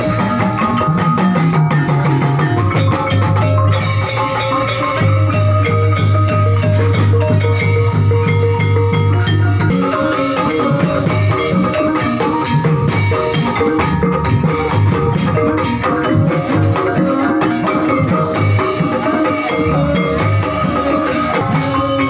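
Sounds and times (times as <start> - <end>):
gamelan ensemble playing: 0.0 - 22.0
low hand-drum strokes: 0.0 - 22.0
ringing bronze gongs: 0.0 - 22.0.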